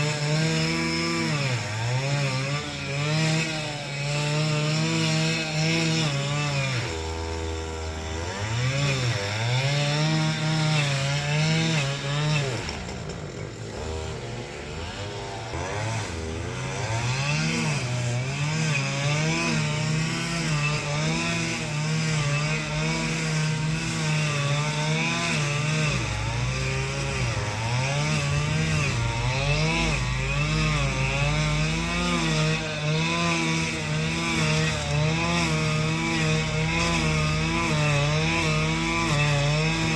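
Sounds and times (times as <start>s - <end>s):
power tool engine revving: 0.0s - 39.9s.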